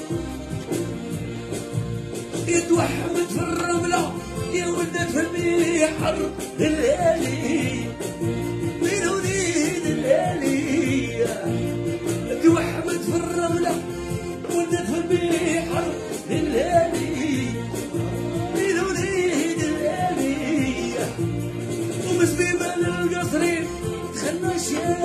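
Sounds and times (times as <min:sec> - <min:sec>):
instrumental accompaniment with beat: 0:00.0 - 0:25.0
man singing: 0:02.3 - 0:25.0.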